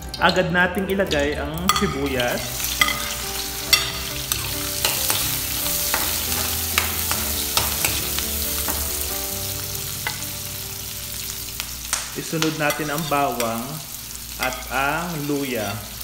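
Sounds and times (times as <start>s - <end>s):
onion sizzling in oil: 0.0s - 16.0s.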